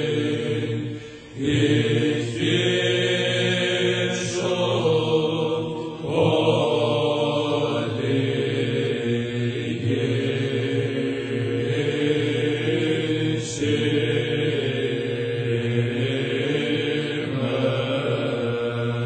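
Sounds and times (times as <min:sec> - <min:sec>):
voices chanting slow melody: 0:00.0 - 0:19.0.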